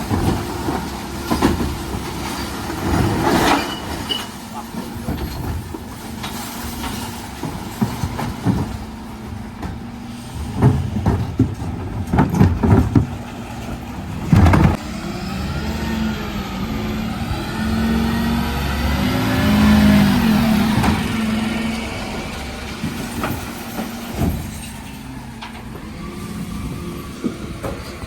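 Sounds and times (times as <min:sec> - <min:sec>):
recycling clattering into truck: 0:00.0 - 0:15.0, 0:18.8 - 0:28.0
truck engine and hydraulic whine: 0:00.0 - 0:28.0.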